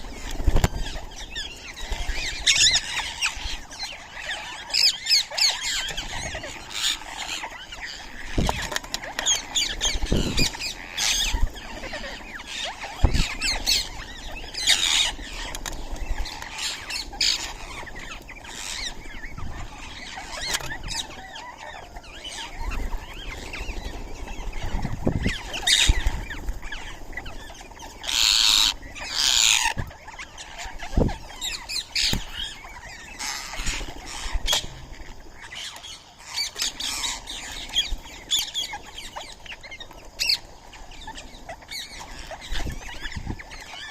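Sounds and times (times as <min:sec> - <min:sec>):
parakeets screeching: 0:00.0 - 0:43.9.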